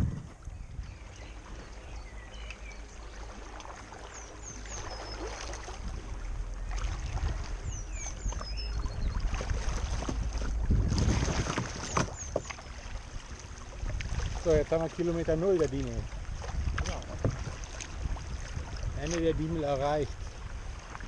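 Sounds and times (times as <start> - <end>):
wind rumble on microphone: 0.0 - 3.6, 4.3 - 21.0
water splashing around hull: 0.0 - 21.0.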